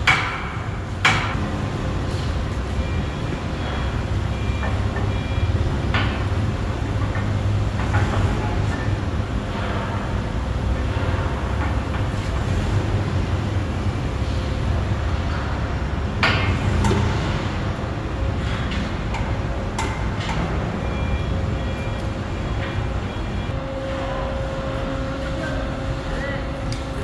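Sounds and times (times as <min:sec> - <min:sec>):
low mechanical rumble: 0:00.0 - 0:27.0.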